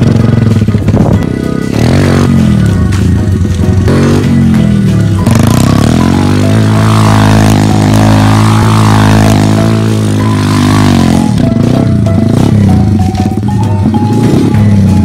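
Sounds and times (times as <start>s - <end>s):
music: 0.0s - 15.0s
vehicle engine running: 0.0s - 15.0s.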